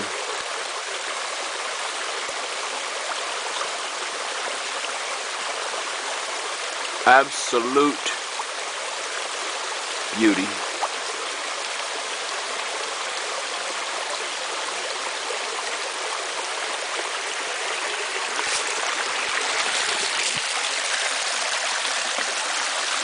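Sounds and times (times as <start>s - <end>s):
creek water over rocks: 0.0s - 23.0s.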